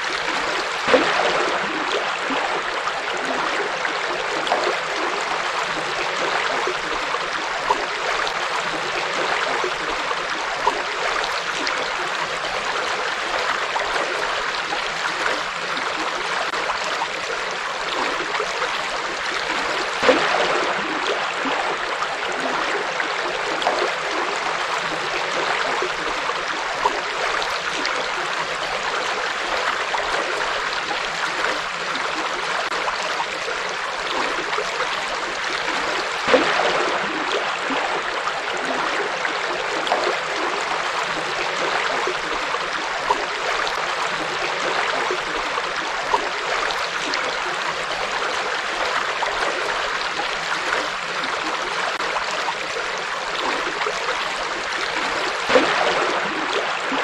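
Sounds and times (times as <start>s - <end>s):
water splashes: 0.0s - 57.0s.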